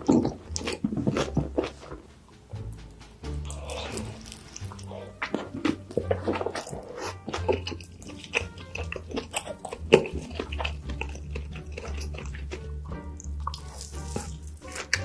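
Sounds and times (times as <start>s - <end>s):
crunchy chewing and biting: 0.0s - 2.1s, 3.4s - 15.0s.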